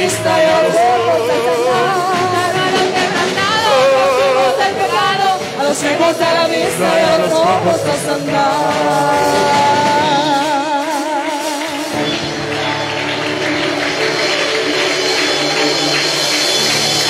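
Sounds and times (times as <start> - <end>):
band accompaniment: 0.0 - 17.0.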